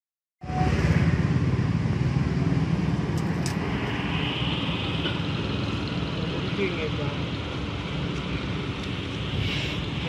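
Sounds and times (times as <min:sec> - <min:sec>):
city street traffic rumble: 0:00.4 - 0:10.0.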